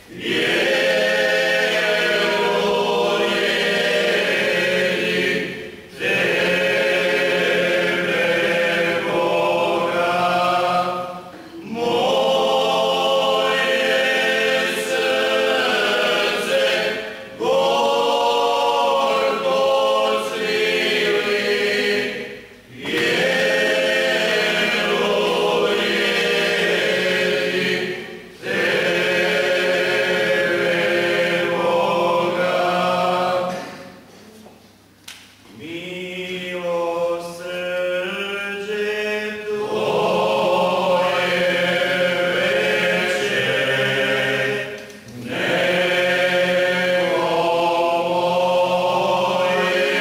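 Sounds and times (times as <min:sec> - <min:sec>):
male choir singing a hymn: 0:00.0 - 0:34.0, 0:35.5 - 0:50.0.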